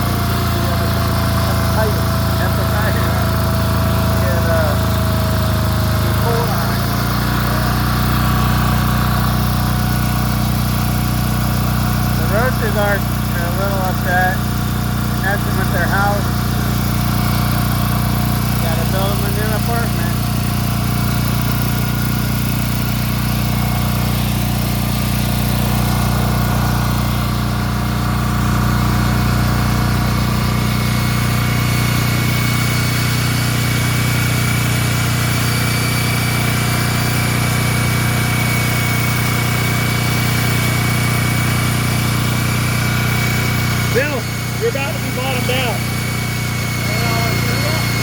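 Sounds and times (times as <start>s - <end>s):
drilling engine low drone: 0.0s - 48.0s.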